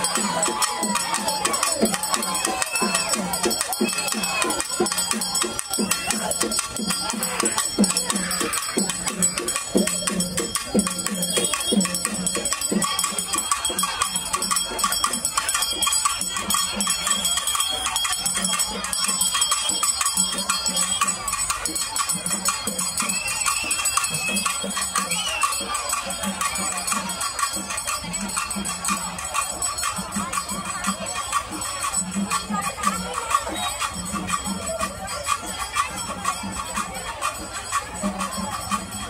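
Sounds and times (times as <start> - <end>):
rapid procession drumming: 0.0 - 39.0.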